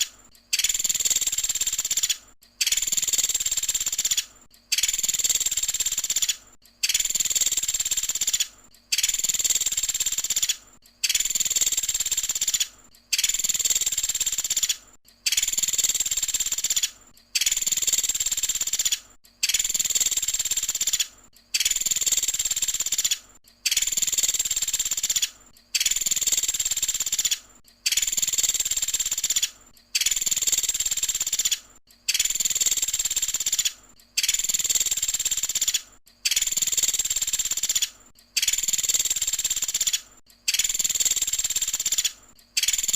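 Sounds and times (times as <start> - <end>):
woodpecker trilling: 0.0 - 42.9.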